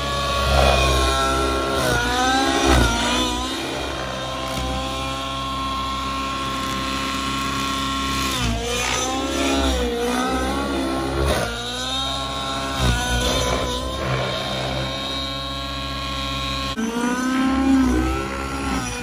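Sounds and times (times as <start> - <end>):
model helicopter engine whine: 0.0 - 19.0.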